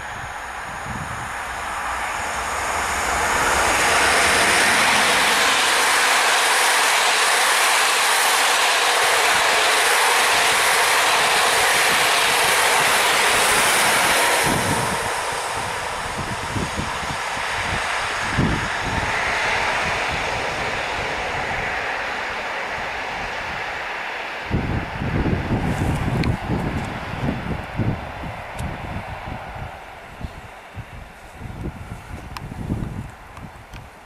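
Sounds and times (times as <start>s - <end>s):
train passing at speed: 0.0s - 34.0s.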